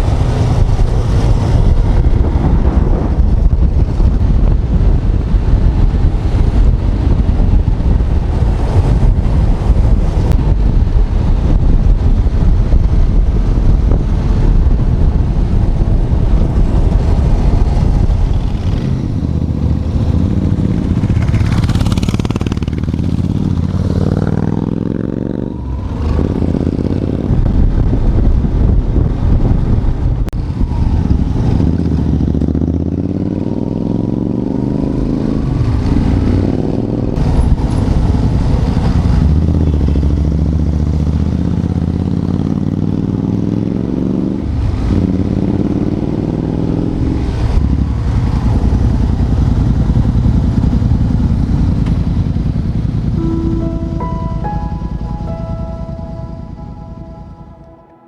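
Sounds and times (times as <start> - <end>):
wind rumble on microphone: 0.0 - 53.2.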